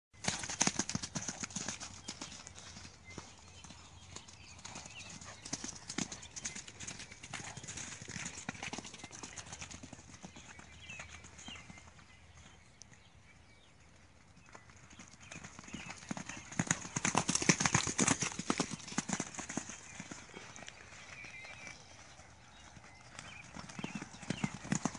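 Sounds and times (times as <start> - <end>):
hoofbeats on muddy grass: 0.2 - 12.6, 14.6 - 24.9.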